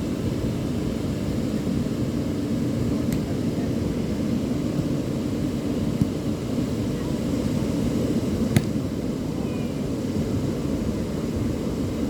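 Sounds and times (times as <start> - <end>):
beach ambience rumble: 0.0 - 12.0.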